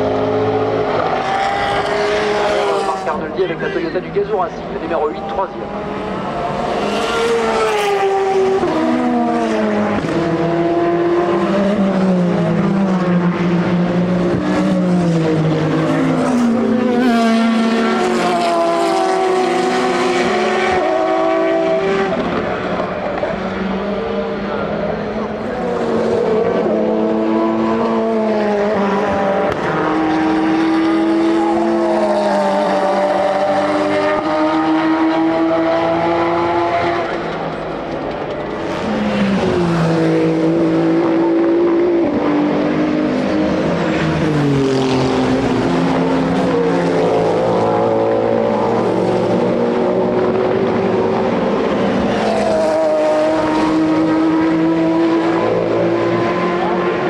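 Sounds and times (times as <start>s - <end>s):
race cars passing at speed: 0.0s - 57.0s.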